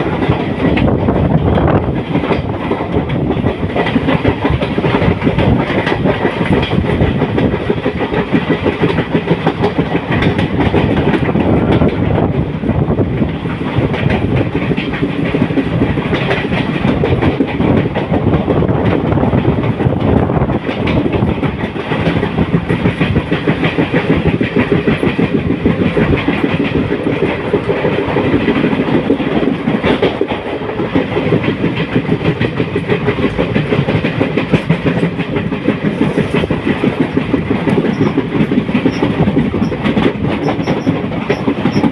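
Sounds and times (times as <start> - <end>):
train rattling on rails: 0.0 - 41.9.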